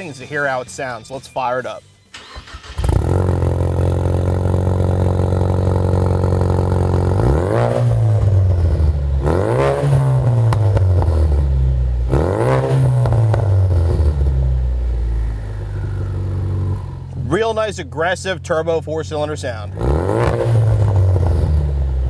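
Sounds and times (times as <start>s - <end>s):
car engine idling and revving: 2.0s - 22.0s.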